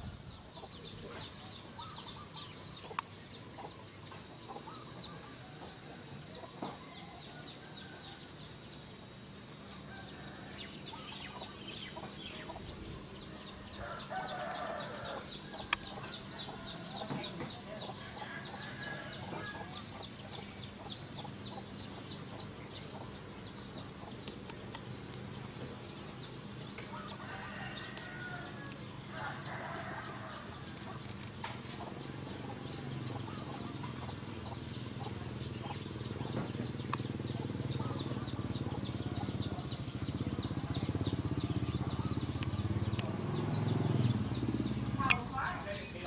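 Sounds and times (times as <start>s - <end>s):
chickens clucking: 0.4s - 7.0s, 13.8s - 46.0s.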